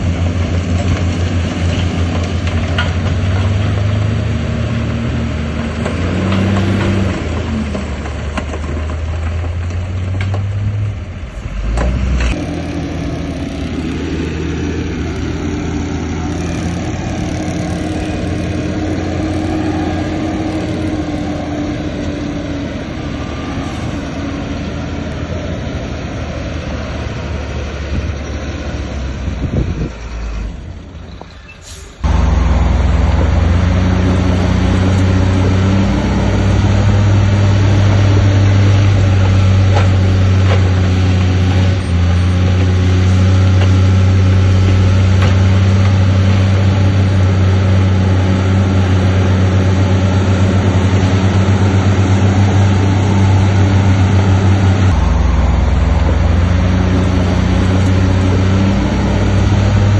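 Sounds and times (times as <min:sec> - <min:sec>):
diesel earthmoving machinery: 0:00.0 - 0:59.9.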